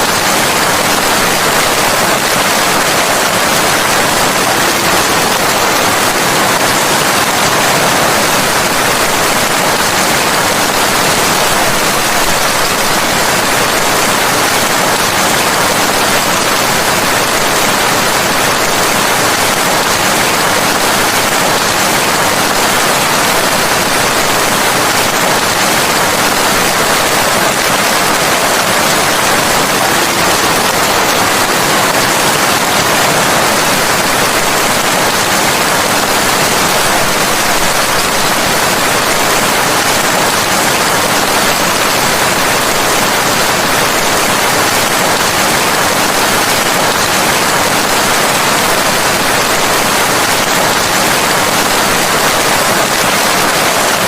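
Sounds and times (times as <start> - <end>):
heavy steady rain: 0.0 - 54.0.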